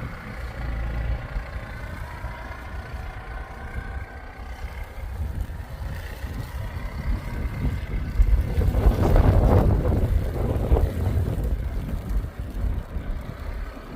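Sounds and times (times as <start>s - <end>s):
atv engine running: 0.0s - 13.9s
wind buffeting microphone: 0.0s - 13.9s.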